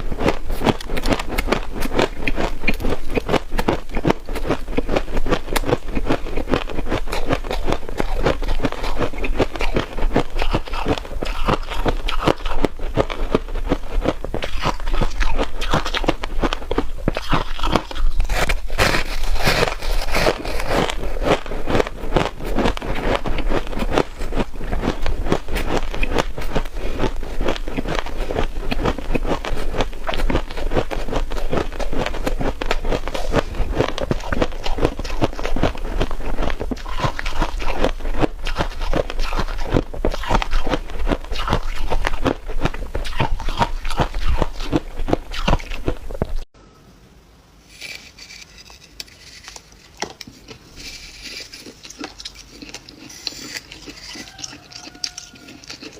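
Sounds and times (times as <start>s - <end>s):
crunching and chewing frost: 0.0s - 46.5s, 47.8s - 55.9s.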